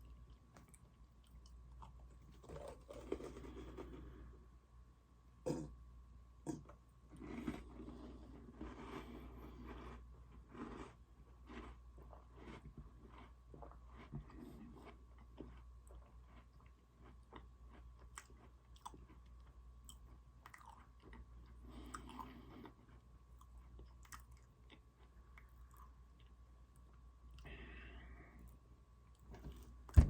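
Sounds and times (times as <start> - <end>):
person chewing crunchy cookie: 0.0 - 4.4, 6.5 - 29.8.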